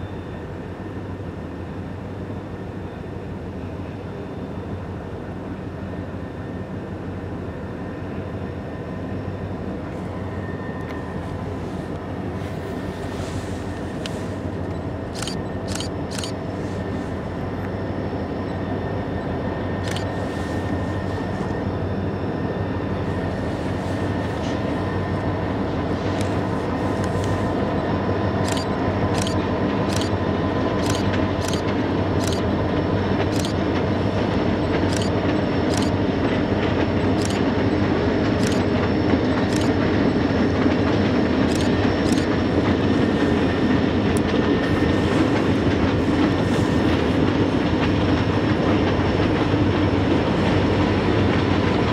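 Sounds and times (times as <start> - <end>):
diesel locomotive engines droning: 0.0 - 51.9.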